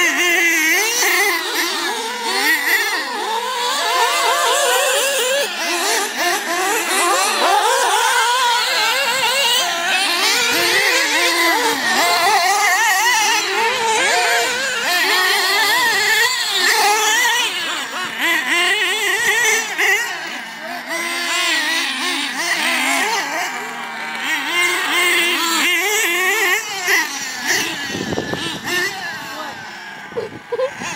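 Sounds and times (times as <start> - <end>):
small nitro engines revving: 0.0 - 30.9.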